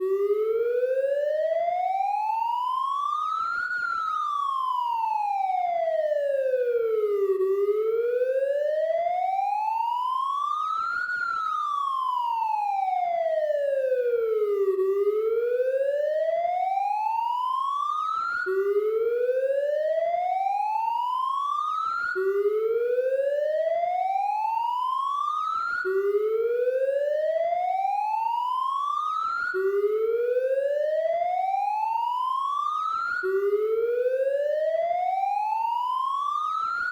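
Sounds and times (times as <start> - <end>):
police siren wailing: 0.0 - 36.9.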